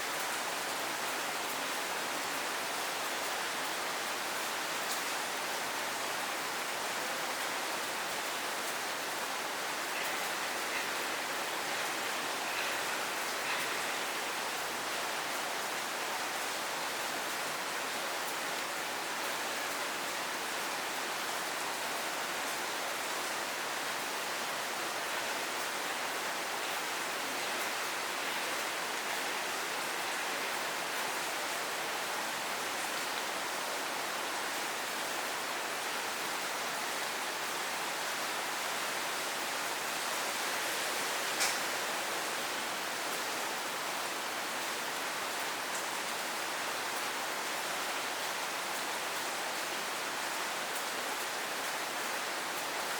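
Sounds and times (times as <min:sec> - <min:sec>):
steady rain hissing: 0:00.0 - 0:52.9.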